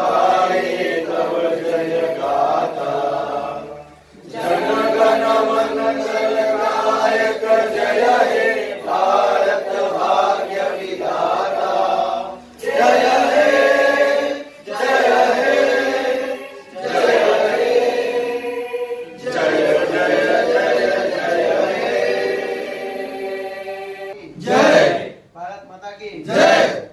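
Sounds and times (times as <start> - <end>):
men singing in unison: 0.0 - 24.7.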